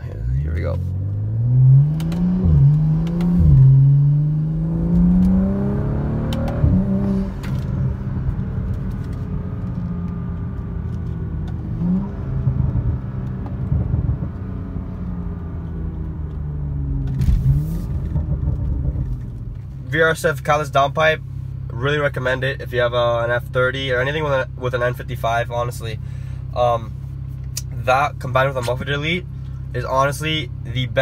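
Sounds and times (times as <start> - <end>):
car engine accelerating: 0.0 - 31.0
exhaust cracks: 0.0 - 31.0.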